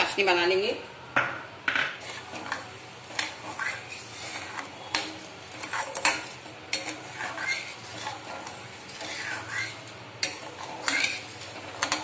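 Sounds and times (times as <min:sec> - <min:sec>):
ladle scraping and knocking pan: 0:02.0 - 0:12.0.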